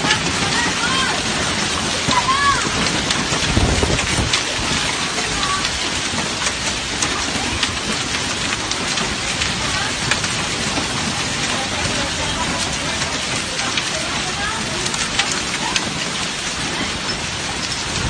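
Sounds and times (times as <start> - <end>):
heavy rain pouring: 0.0 - 18.0
raindrops hitting hard surfaces: 0.0 - 18.0.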